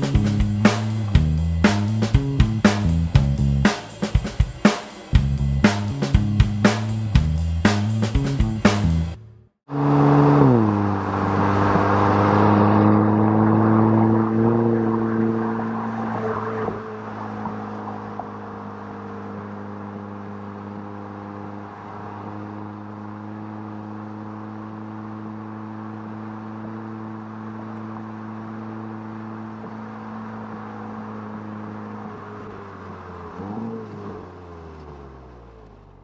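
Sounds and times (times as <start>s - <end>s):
car engine hum: 0.0s - 36.0s.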